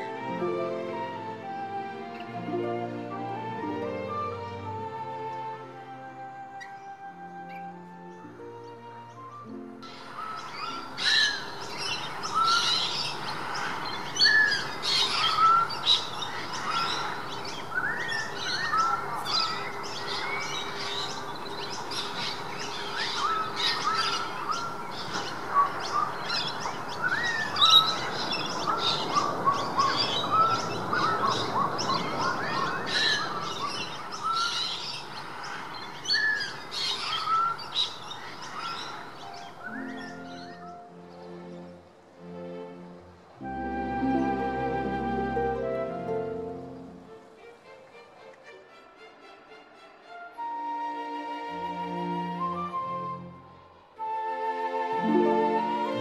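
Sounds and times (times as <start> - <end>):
many birds chirping: 0.0 - 50.4.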